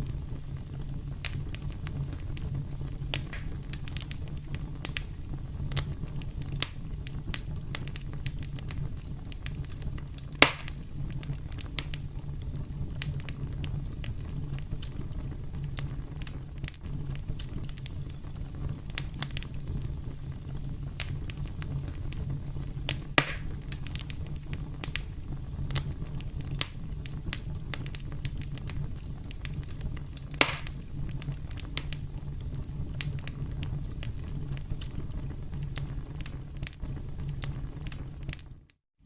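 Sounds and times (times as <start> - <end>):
campfire crackling: 0.0 - 38.7
loud pops of burning wood: 0.0 - 38.7.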